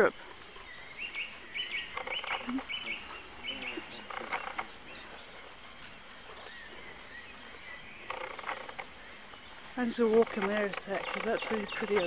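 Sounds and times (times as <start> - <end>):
wild birds singing: 0.0 - 12.0.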